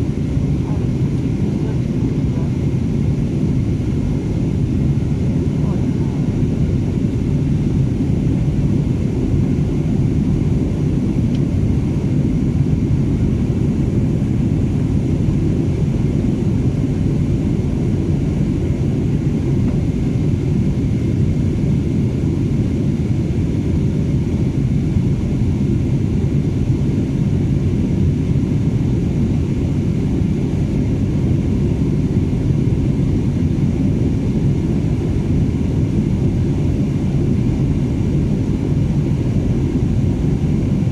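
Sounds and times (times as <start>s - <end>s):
jet airliner cabin rumble: 0.0s - 40.9s.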